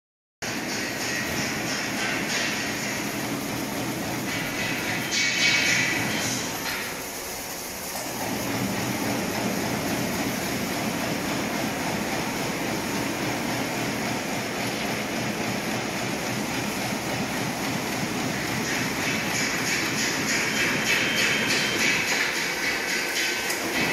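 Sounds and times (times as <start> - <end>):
bag making machine running: 0.4 - 23.9.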